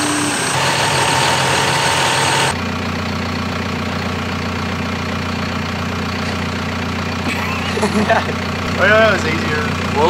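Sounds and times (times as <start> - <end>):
diesel engine idling: 0.0 - 10.0
diesel engine whining: 0.0 - 10.0.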